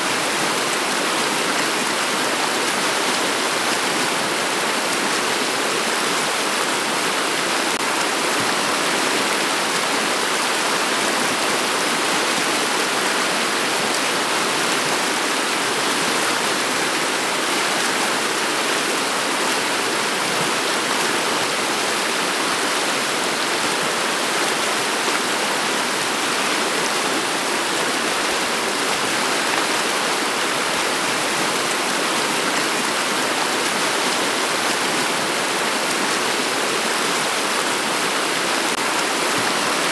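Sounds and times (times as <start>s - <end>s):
river flowing over pebbles: 0.0s - 39.9s.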